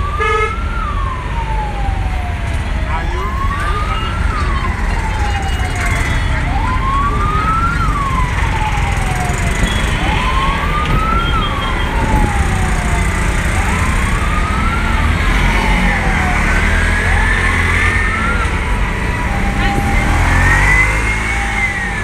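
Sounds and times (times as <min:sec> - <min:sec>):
auto-rickshaw engine rumble: 0:00.0 - 0:22.0
road noise: 0:00.0 - 0:22.0
wailing siren: 0:00.0 - 0:22.0.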